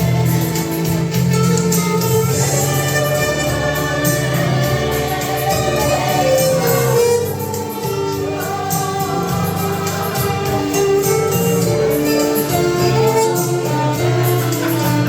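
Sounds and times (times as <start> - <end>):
bass line: 0.0 - 15.0
percussion beat: 0.0 - 15.0
violin melody: 0.0 - 15.0.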